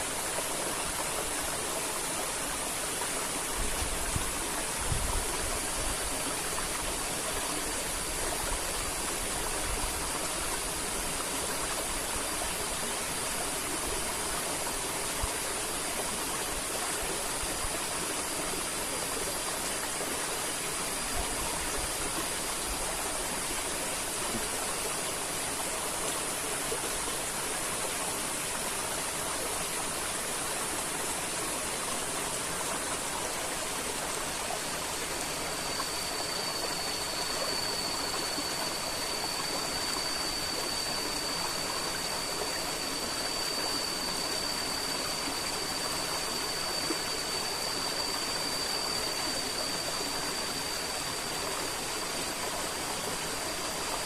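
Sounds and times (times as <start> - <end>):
faint high-pitched tone: 0.0 - 54.0.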